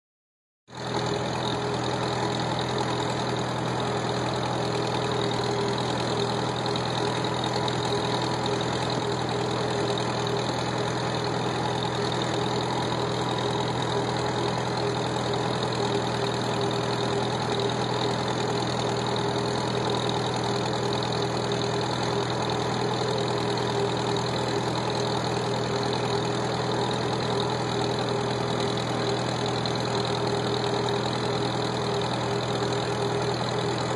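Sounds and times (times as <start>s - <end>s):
tractor engine running: 0.7s - 33.9s.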